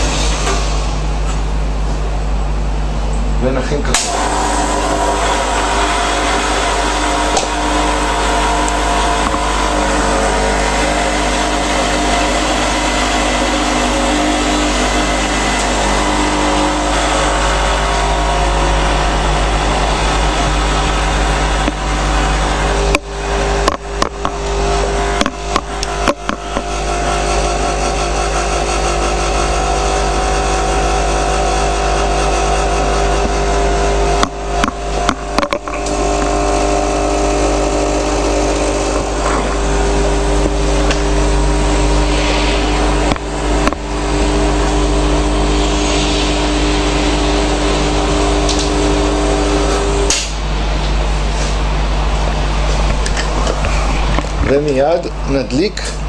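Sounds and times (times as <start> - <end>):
espresso machine pump humming: 4.1 - 55.2.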